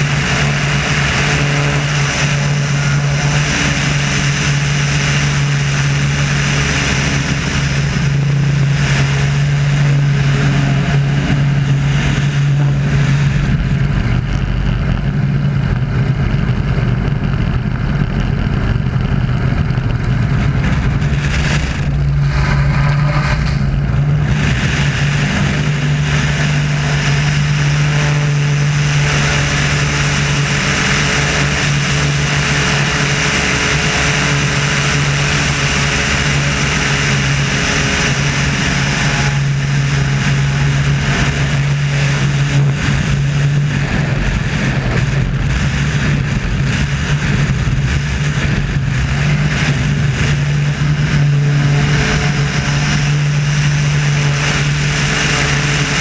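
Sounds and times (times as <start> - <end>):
air rushing past: 0.0 - 56.0
airplane engine and propeller: 0.0 - 56.0.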